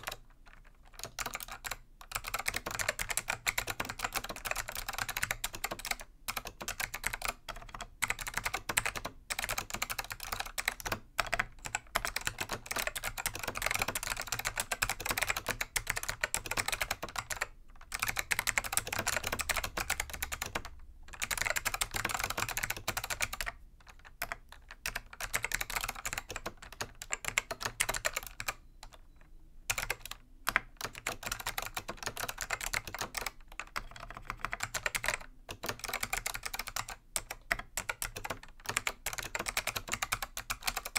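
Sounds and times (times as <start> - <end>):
clicky keyboard typing: 0.0 - 40.9.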